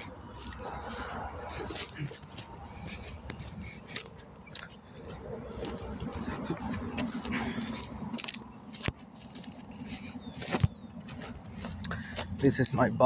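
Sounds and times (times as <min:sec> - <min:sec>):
footsteps through grass: 0:00.0 - 0:13.0.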